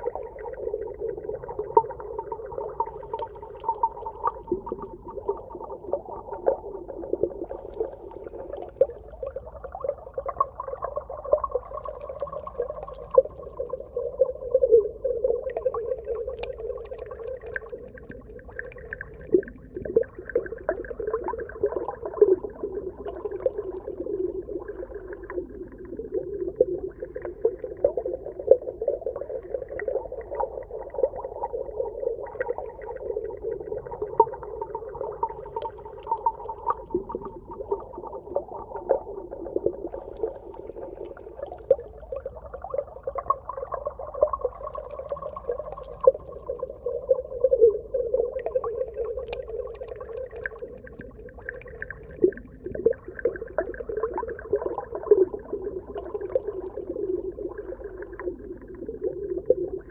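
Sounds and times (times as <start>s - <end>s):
muffled underwater crackling: 0.0s - 59.9s.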